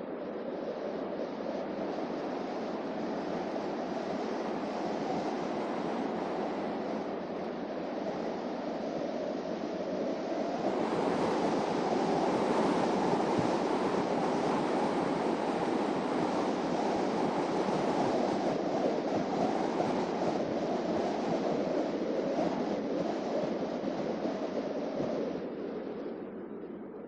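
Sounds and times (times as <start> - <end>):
wind rush: 0.0 - 27.0.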